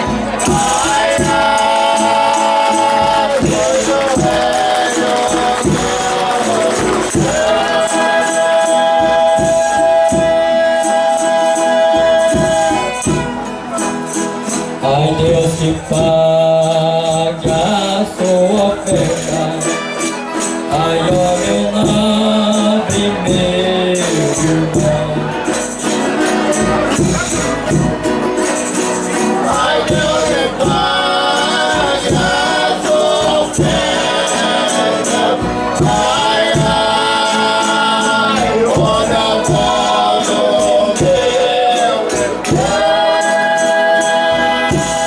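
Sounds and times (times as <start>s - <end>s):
group singing in chorus: 0.0s - 45.0s
tambourine jingles: 0.0s - 45.0s.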